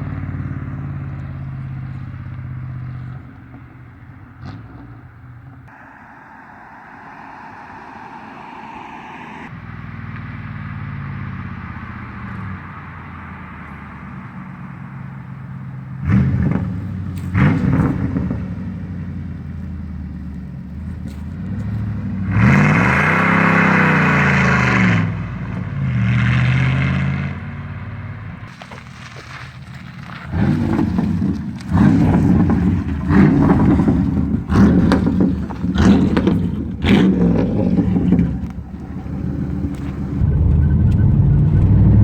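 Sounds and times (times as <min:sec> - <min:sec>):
car exhaust revving: 0:00.0 - 0:42.0.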